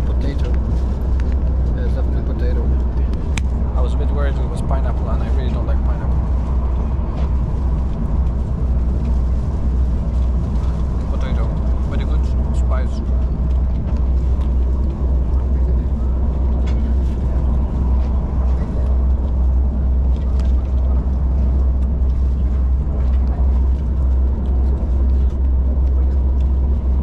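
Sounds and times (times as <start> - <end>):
train carriage rumble: 0.0 - 27.0.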